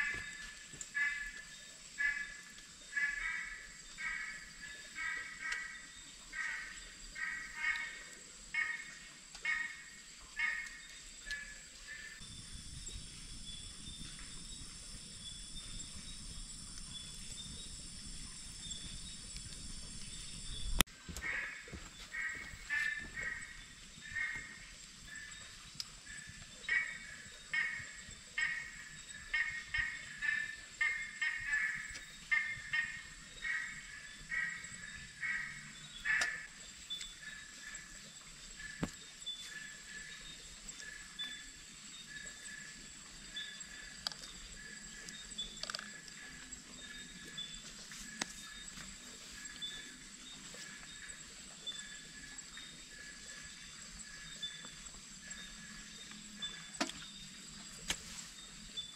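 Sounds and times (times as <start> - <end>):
frogs croaking: 0.0 - 58.9
high insect trill: 0.0 - 58.9.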